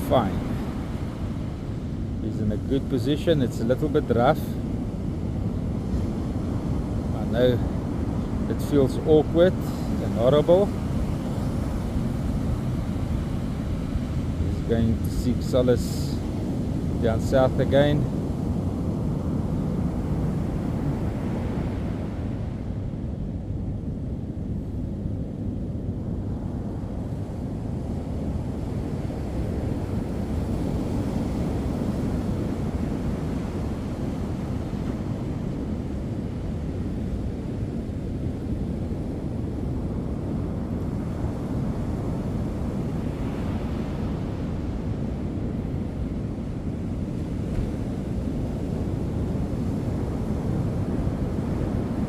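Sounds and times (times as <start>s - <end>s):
ocean surf breaking: 0.0s - 52.0s
wind buffeting microphone: 0.0s - 52.0s.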